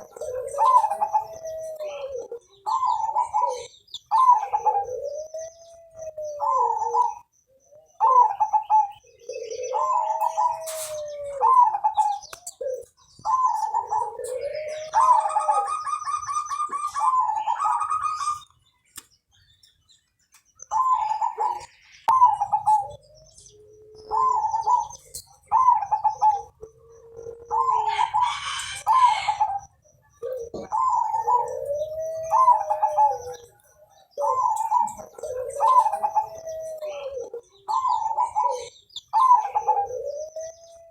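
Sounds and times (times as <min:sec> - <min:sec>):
dove cooing: 0:00.0 - 0:18.5, 0:20.6 - 0:40.9.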